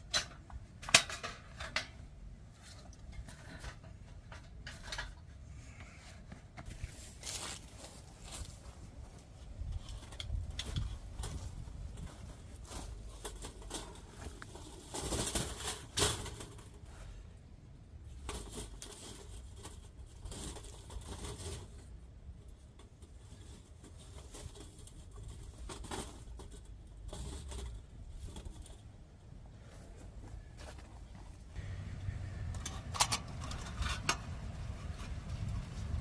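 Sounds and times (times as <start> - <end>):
rustling and crinkling handling: 0.0 - 17.3, 18.0 - 36.0.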